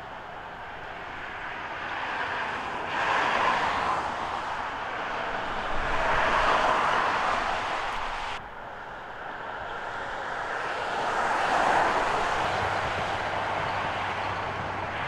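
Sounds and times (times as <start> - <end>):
freeway traffic rushing: 0.0 - 15.0
vehicles swishing by: 0.0 - 15.0.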